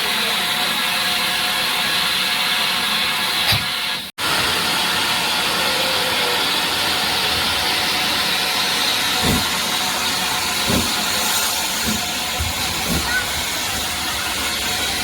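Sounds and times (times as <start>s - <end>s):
hiss of escaping steam: 0.0s - 15.0s.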